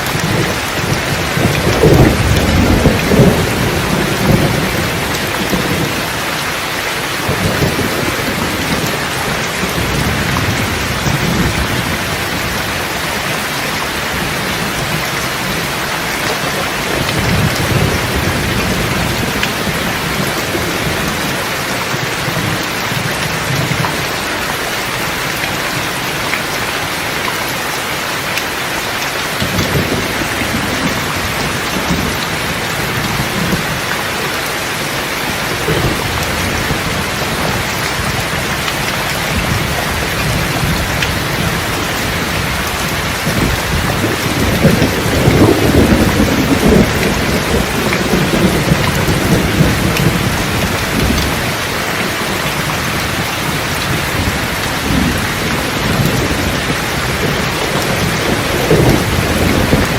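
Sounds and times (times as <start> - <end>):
rolling thunder: 0.0 - 24.2, 29.4 - 59.9
steady rain: 0.0 - 59.9.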